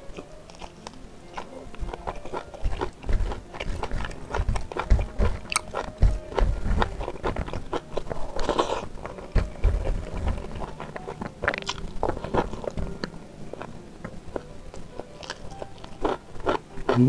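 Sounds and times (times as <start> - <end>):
wet chewing with mouth clicks: 0.0 - 17.0.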